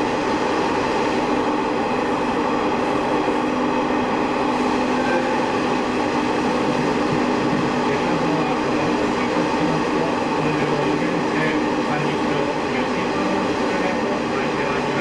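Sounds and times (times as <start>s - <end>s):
diesel railcar engine drone: 0.0s - 15.0s
wheels rolling on rail: 0.0s - 15.0s.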